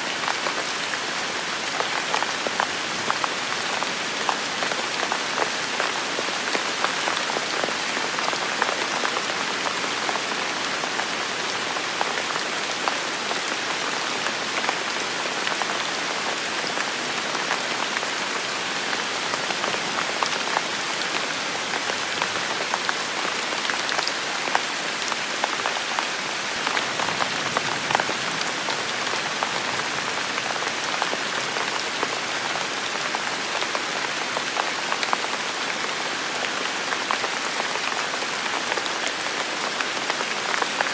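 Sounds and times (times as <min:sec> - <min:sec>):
heavy rain falling: 0:00.0 - 0:40.9
raindrops pattering on surfaces: 0:00.2 - 0:40.9.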